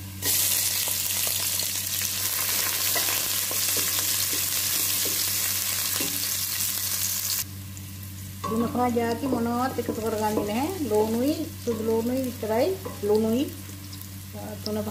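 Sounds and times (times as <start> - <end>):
onions sizzling in hot oil: 0.0 - 14.9.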